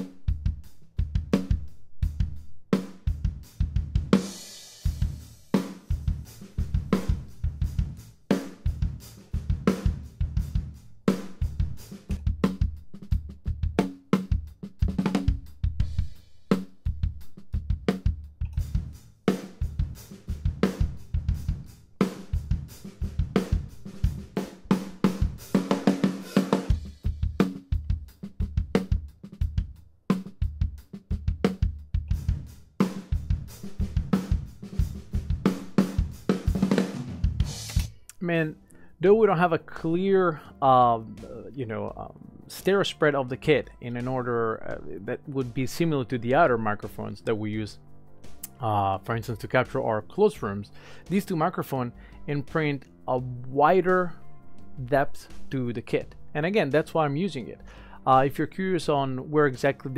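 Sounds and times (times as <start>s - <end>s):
acoustic drum kit groove: 0.0s - 59.9s.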